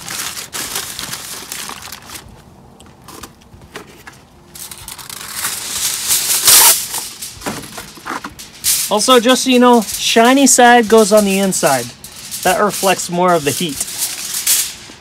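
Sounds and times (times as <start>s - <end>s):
aluminium foil crinkling: 0.0s - 2.4s, 4.5s - 15.0s.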